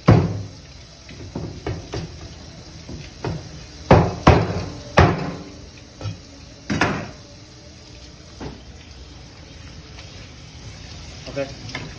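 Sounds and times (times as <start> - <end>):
tap water running: 0.0 - 11.9.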